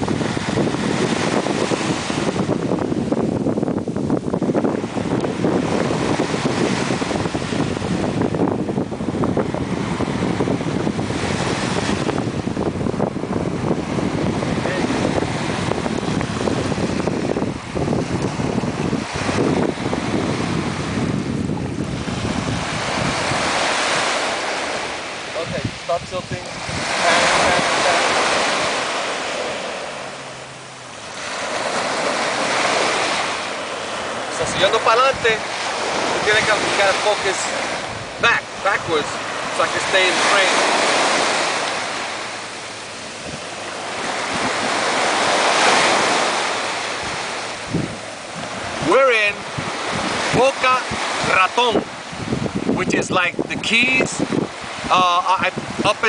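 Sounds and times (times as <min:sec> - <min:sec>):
small waves breaking on shore: 0:00.0 - 0:56.0
wind buffeting microphone: 0:00.0 - 0:56.0.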